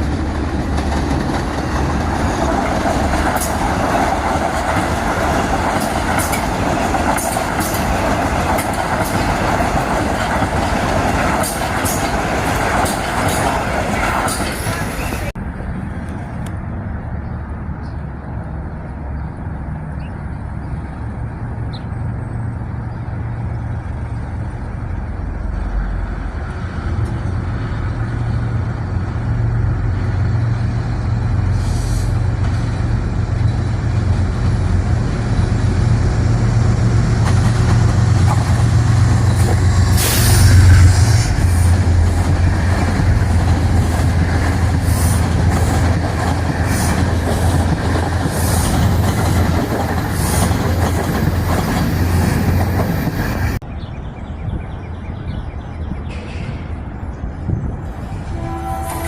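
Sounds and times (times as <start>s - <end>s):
train droning: 0.0s - 16.4s, 22.3s - 53.6s, 56.1s - 59.0s.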